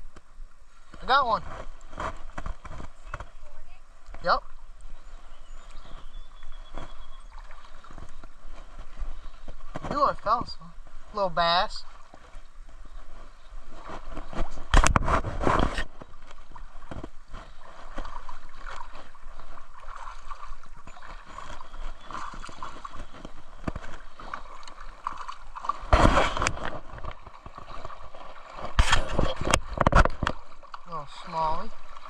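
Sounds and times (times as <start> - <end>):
creek water gurgling: 0.0 - 32.0.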